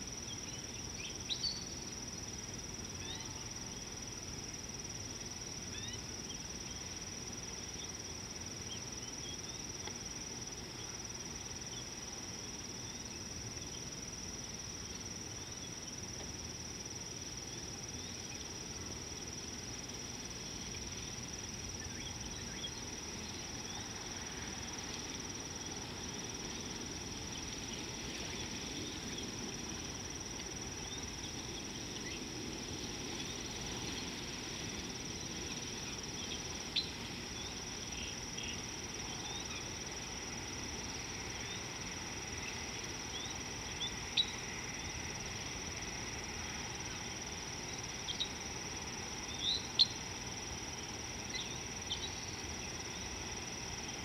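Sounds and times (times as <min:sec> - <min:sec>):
faint insect chirps: 0:00.0 - 0:54.0
insects droning: 0:00.0 - 0:54.0.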